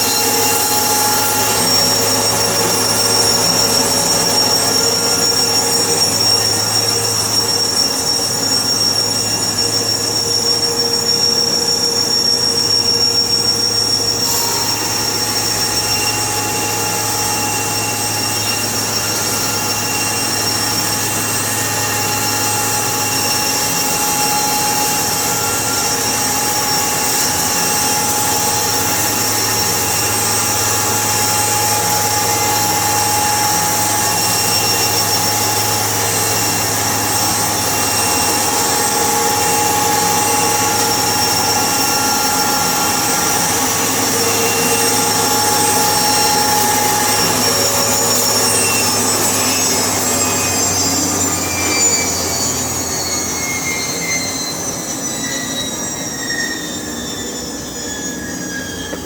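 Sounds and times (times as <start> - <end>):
higher machine whine: 0.0 - 59.0
sawmill machinery whine: 0.0 - 59.0.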